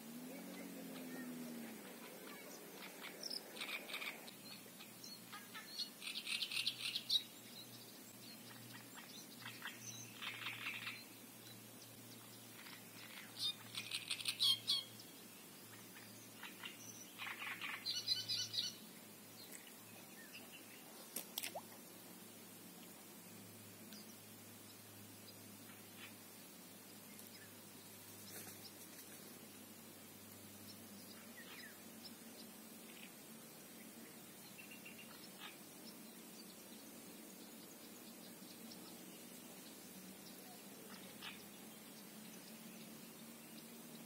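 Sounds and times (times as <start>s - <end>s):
small birds chirping in trills: 0.0s - 44.0s.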